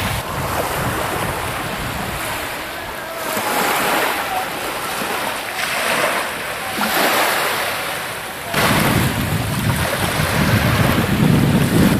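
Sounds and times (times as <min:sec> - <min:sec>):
wind blowing on microphone: 0:00.0 - 0:07.4, 0:08.4 - 0:11.9
small waves on pebbly shore: 0:00.0 - 0:11.9.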